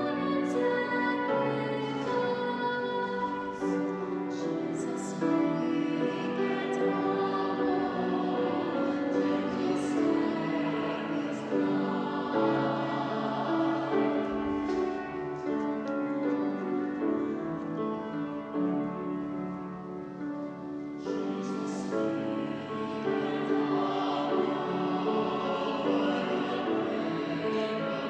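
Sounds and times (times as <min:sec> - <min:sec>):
girls singing a hymn: 0:00.0 - 0:28.0.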